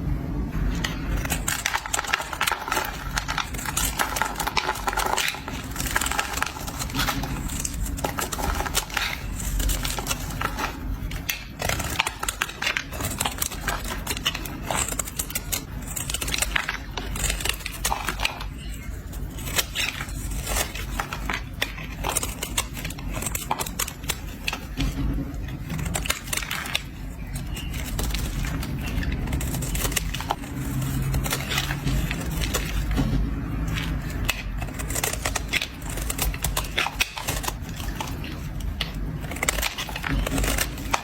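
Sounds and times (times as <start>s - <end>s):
blade scraping soap: 0.7s - 41.0s.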